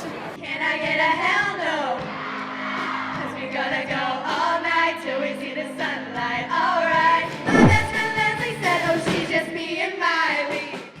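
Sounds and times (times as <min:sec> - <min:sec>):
women singing a pop song: 0:00.4 - 0:11.0.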